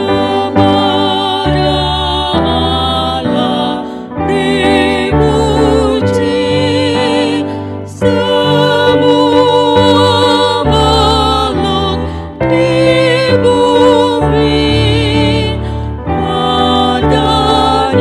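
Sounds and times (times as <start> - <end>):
women singing a hymn: 0.0 - 18.0.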